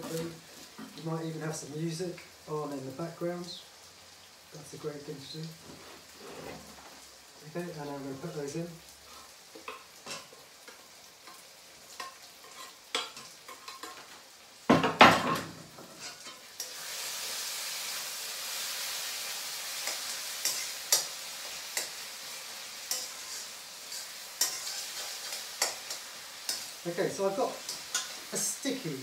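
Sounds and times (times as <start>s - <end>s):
food sizzling in a wok: 0.0s - 29.0s.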